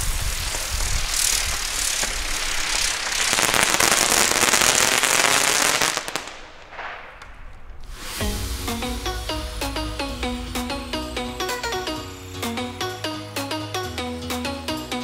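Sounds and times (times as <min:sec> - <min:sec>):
fireworks crackling: 0:00.0 - 0:12.6.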